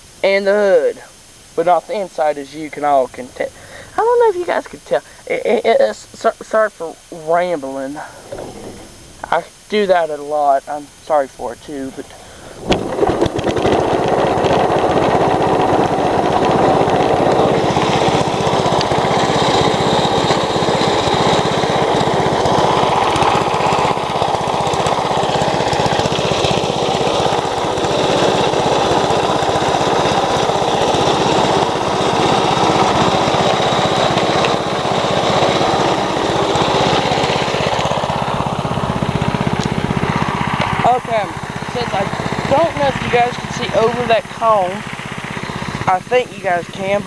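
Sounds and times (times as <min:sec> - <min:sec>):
riding lawn mower engine: 0:00.0 - 0:47.0.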